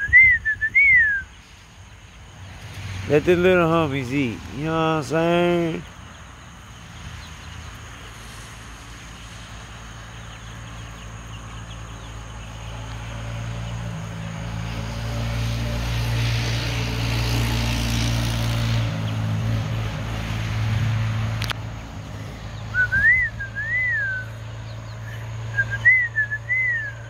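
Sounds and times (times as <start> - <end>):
low engine drone: 1.3 - 27.0.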